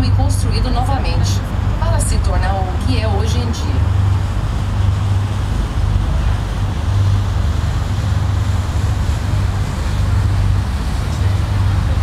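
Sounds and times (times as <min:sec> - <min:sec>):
boat engine humming: 0:00.0 - 0:12.0
wind and water rushing: 0:00.0 - 0:12.0.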